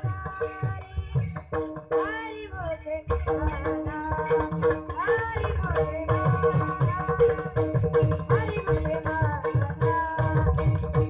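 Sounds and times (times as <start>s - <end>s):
boy singing: 0.0s - 11.0s.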